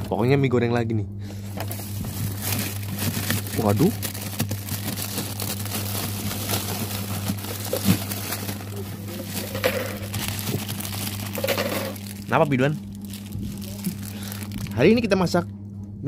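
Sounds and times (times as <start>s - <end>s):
steady low hum: 0.0s - 16.0s
plastic bags crinkling: 1.6s - 15.1s.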